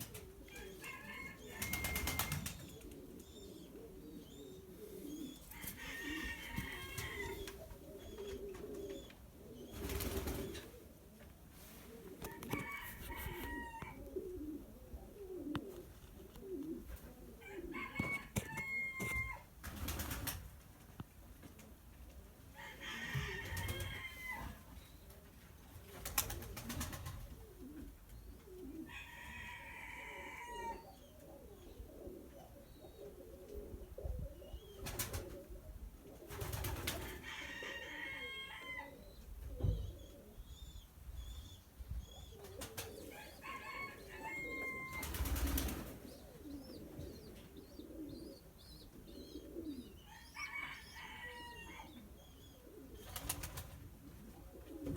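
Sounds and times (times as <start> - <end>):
pigeons cooing: 0.0 - 20.5, 21.6 - 54.9.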